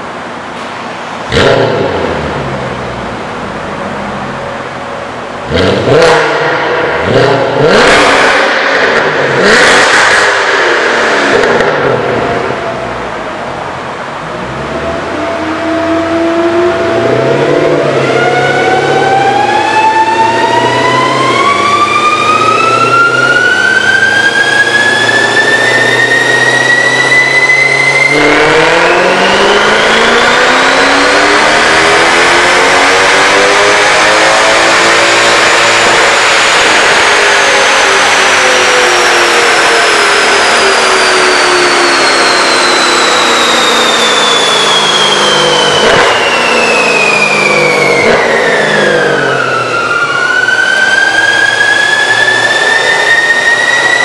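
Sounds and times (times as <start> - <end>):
car engine revving on dynamometer: 0.0 - 54.0.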